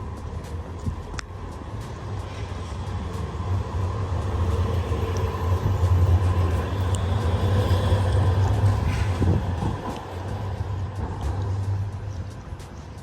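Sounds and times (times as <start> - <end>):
large vehicle passing: 0.0 - 13.0.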